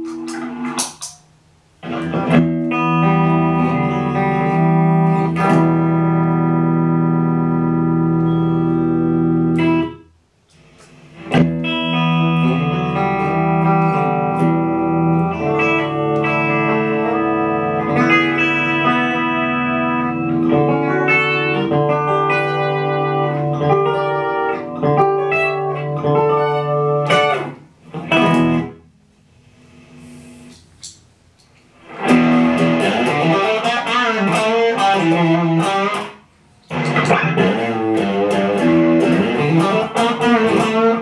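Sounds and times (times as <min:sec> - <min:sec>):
clean electric guitar: 0:00.0 - 0:41.0.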